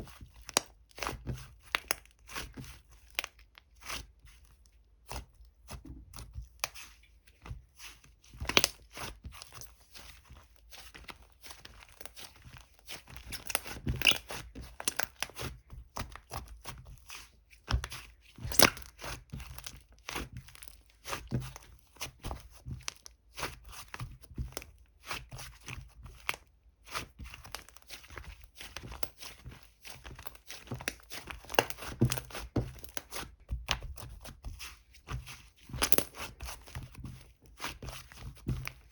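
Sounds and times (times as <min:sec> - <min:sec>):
slime squished by hand: 0:07.6 - 0:38.9.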